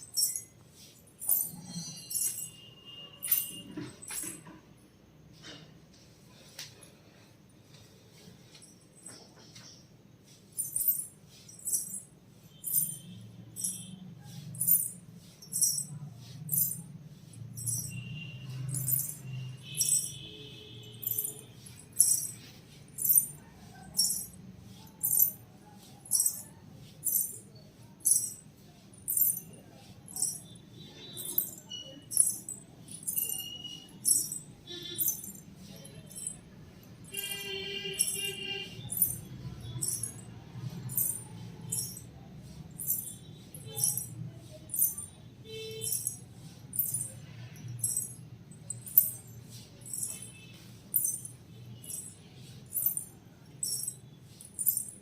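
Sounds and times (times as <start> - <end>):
anklet bells jingling: 0.0 - 4.5, 8.4 - 55.0.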